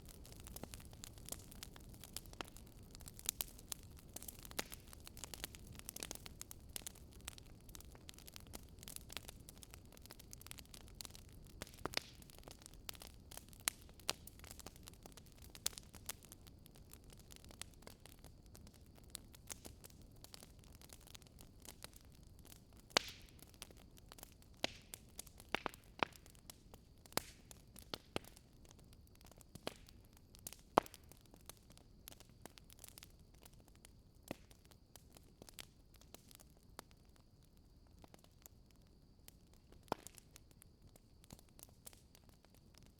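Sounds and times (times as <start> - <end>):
fire low hiss: 0.0 - 36.8
bonfire crackling and popping: 0.0 - 42.9.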